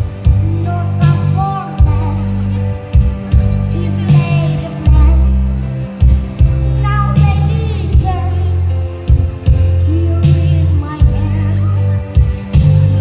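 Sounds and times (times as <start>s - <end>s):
backing music with bass and drums: 0.0s - 13.0s
girl singing: 0.0s - 13.0s.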